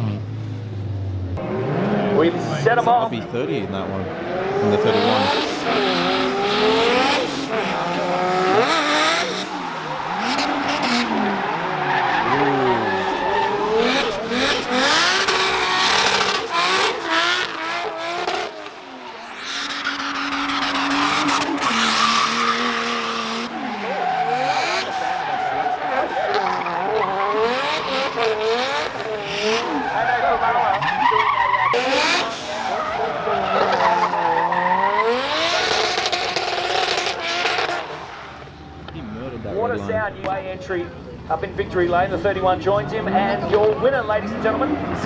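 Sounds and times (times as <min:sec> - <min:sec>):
car engines revving hard: 0:00.0 - 0:45.0
tyres squealing and skidding: 0:01.6 - 0:40.0.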